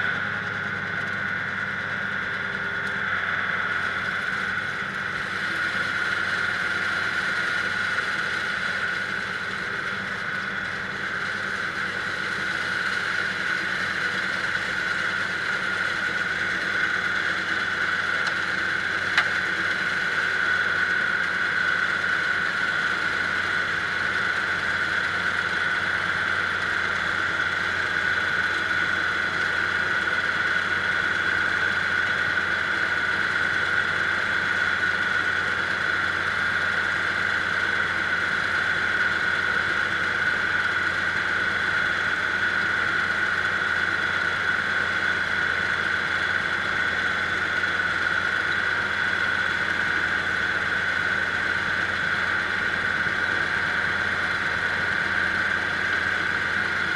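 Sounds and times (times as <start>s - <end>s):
snowblower high whine: 0.0s - 56.9s
tractor engine running: 0.0s - 56.9s.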